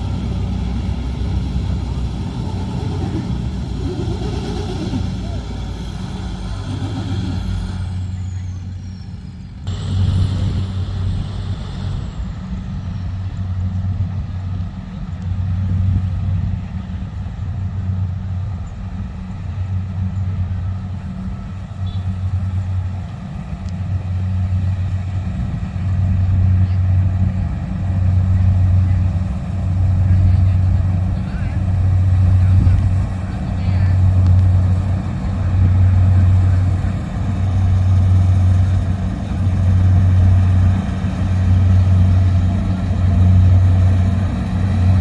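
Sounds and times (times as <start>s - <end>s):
combine harvester drone: 0.0s - 45.0s.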